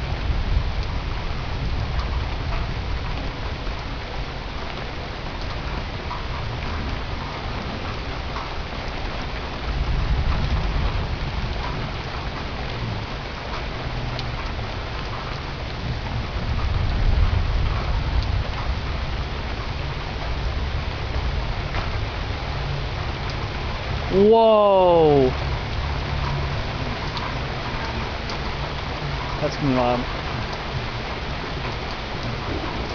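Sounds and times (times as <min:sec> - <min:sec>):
low thunder rumbling: 0:00.0 - 0:24.1, 0:25.3 - 0:32.9
heavy rain falling: 0:00.0 - 0:32.9.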